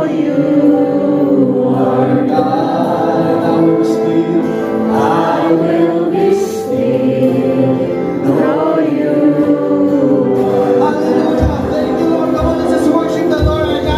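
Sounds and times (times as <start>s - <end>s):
choir singing a worship song: 0.0s - 13.9s.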